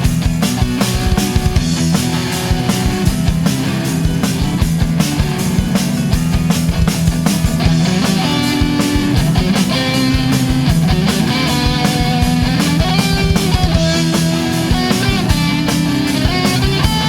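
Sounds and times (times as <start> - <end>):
melodic guitar lines: 0.0 - 17.0
rock band playing: 0.0 - 17.0.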